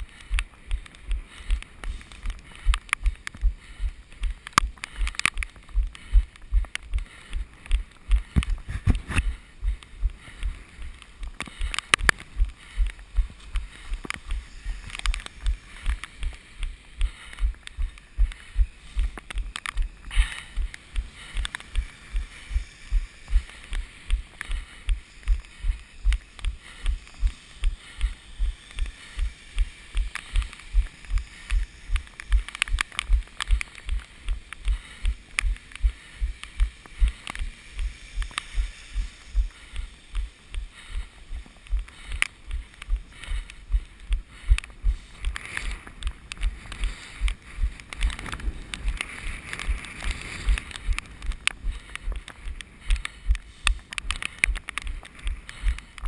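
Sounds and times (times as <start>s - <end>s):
running footsteps: 0.0s - 56.0s.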